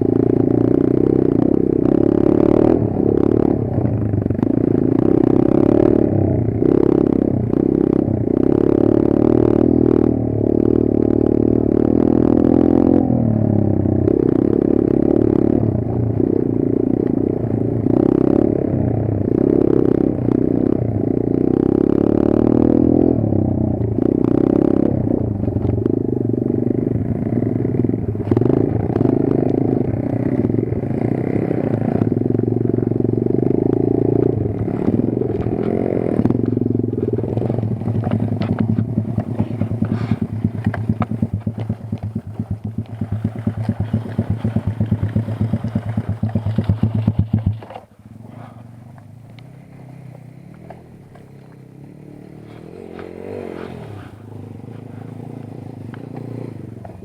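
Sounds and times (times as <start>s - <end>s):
motorbike engine idling: 0.0s - 57.0s.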